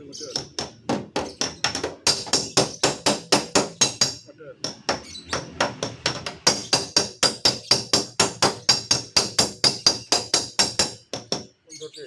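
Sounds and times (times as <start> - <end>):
hammer tapping on steel panel: 0.2 - 11.5.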